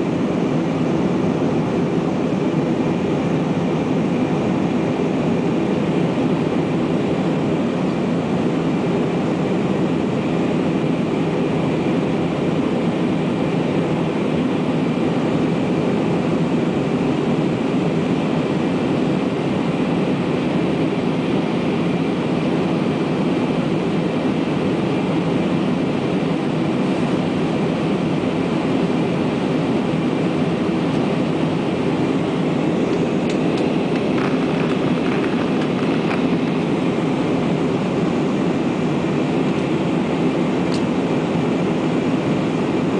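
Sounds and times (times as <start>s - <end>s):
jet engines and airflow rush: 0.0s - 42.9s.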